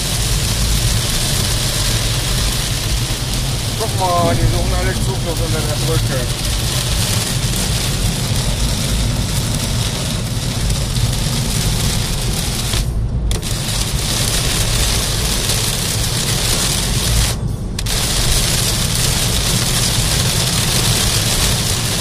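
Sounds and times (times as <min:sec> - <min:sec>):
heavy rain on car roof: 0:00.0 - 0:22.0
low road rumble: 0:00.0 - 0:22.0.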